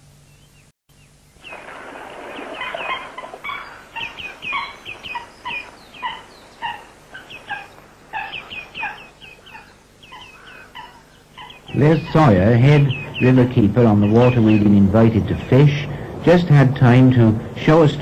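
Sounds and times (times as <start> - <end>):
birds chirping calls: 0.0 - 18.0
steady hiss: 1.0 - 18.0.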